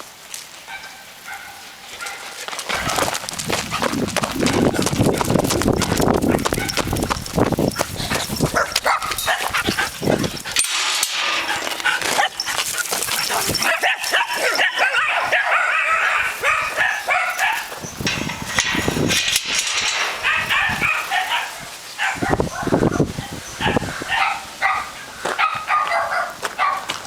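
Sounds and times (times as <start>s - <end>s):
dogs barking and yipping: 0.6s - 27.0s.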